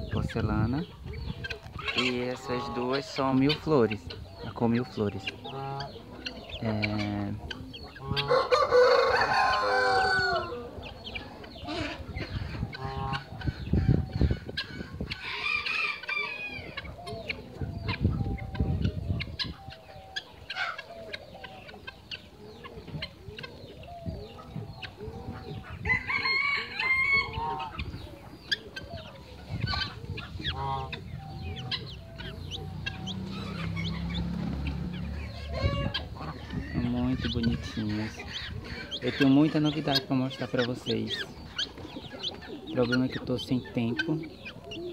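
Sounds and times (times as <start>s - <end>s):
chicks peeping and chirping: 0.0s - 44.9s
loud chicken calls: 0.0s - 44.9s.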